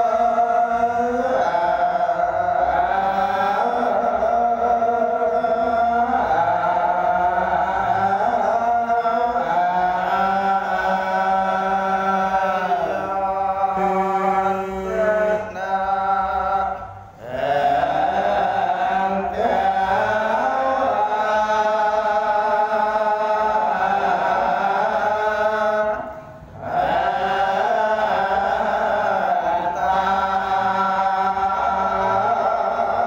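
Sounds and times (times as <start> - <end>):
monks chanting into microphones: 0.0 - 33.0.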